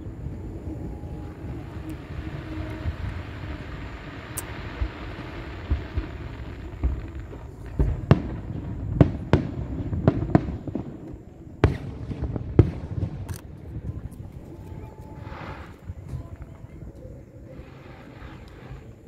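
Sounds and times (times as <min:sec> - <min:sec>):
fireworks bangs: 0:00.0 - 0:19.0
low rumble: 0:00.0 - 0:19.0.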